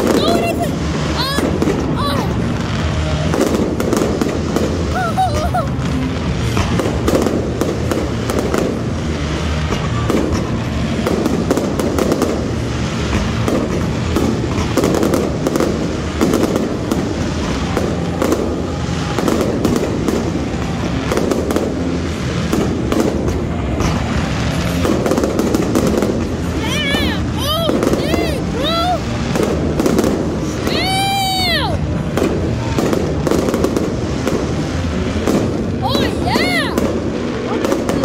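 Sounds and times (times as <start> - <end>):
fireworks bangs and pops: 0.0 - 38.0.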